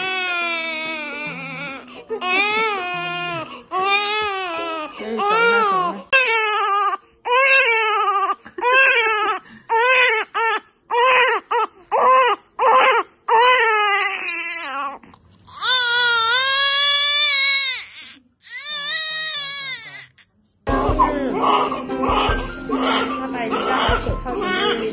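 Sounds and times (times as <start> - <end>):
newborn baby long cry: 0.0 - 20.1, 20.7 - 24.9.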